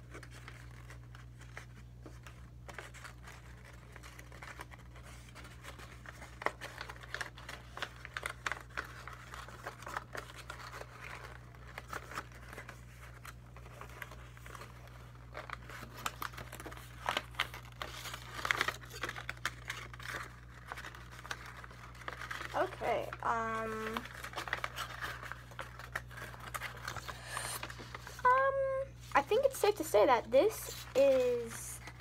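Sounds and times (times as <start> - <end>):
paper crinkling and rustling: 0.0 - 32.0.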